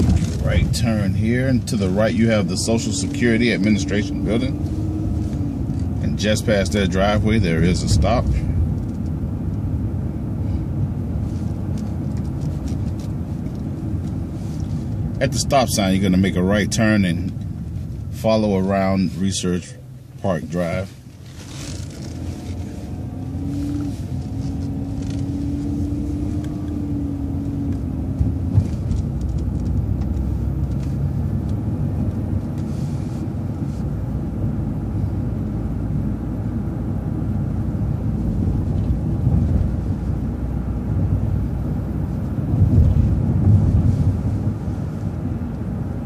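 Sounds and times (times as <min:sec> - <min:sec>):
vehicle engine rumble and road noise: 0:00.0 - 0:46.0.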